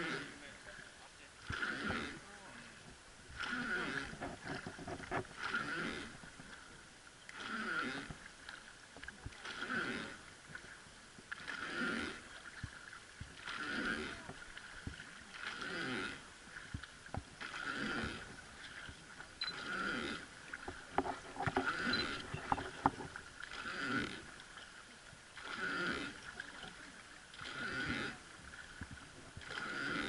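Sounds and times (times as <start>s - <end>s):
oar creaking and sloshing: 0.0s - 30.0s.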